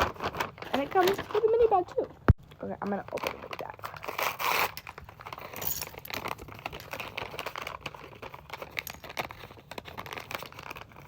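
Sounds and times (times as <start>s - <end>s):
plastic bag crinkling: 0.0s - 2.0s, 2.6s - 11.0s.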